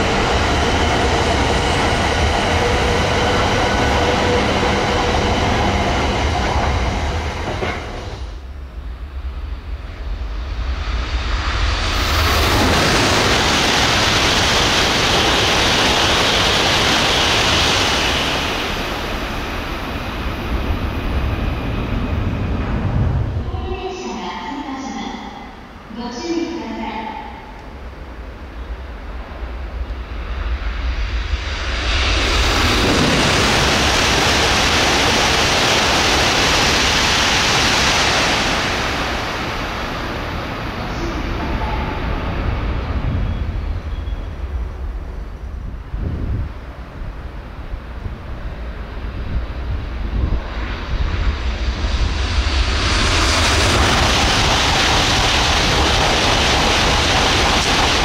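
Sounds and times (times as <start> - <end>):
high-speed train passing: 0.0 - 58.0.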